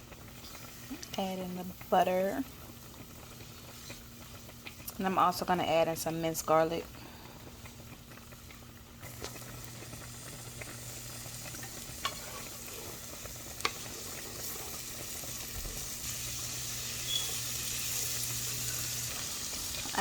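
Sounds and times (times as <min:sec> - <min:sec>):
butter and garlic sizzling: 0:00.0 - 0:20.0.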